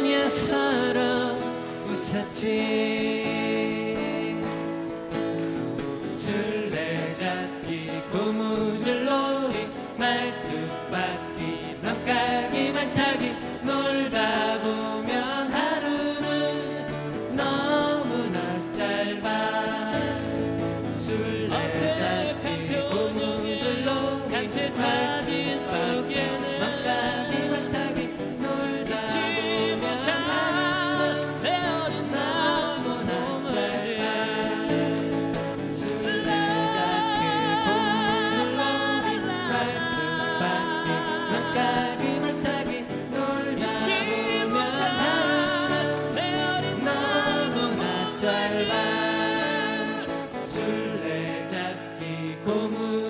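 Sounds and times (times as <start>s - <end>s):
men singing together: 0.0s - 53.0s
strummed acoustic guitars: 0.0s - 53.0s.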